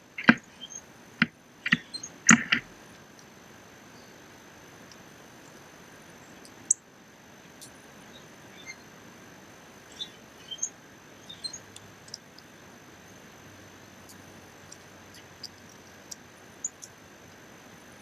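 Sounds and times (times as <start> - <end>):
small birds chirping: 0.0 - 4.3, 4.9 - 9.0, 9.7 - 13.2, 13.9 - 17.4
steady outdoor hiss: 0.0 - 18.0.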